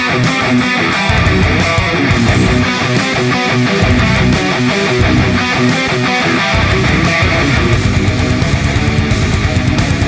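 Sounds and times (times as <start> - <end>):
strummed electric guitar music: 0.0 - 10.0.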